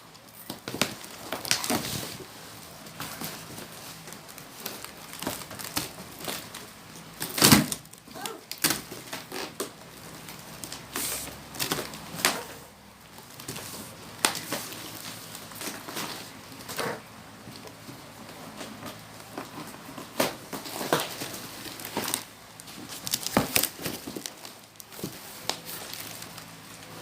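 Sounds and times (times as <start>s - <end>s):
plastic wrapping crackling: 0.0s - 16.8s, 17.5s - 27.0s.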